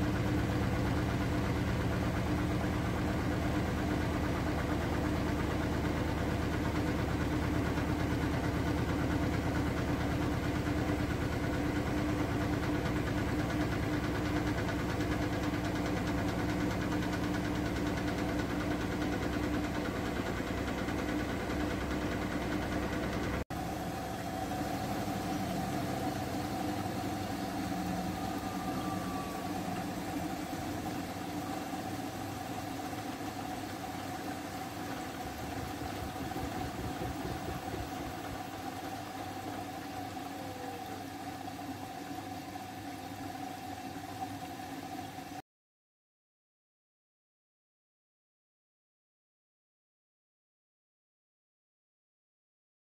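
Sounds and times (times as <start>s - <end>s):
washing machine drum tumbling water: 0.0s - 45.4s
washing machine spinning: 0.0s - 45.4s.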